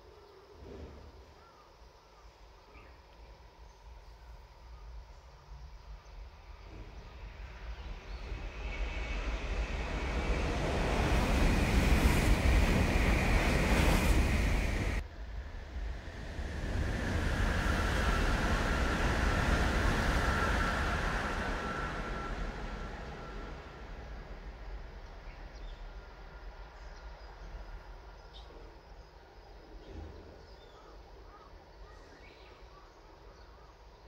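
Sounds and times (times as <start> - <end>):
high whine of train: 0.0 - 34.0
bullet train passing: 4.3 - 32.3.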